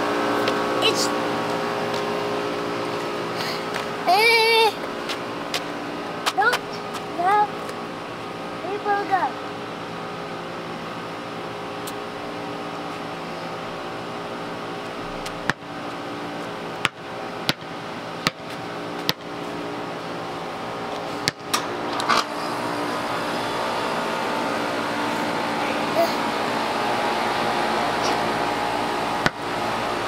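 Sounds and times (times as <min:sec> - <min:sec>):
air conditioning units humming: 0:00.0 - 0:30.0.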